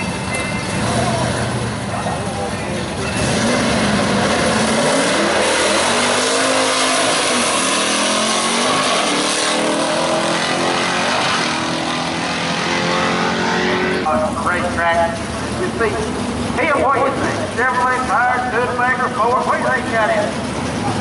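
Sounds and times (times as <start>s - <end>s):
drag car engine at full throttle: 0.0s - 21.0s.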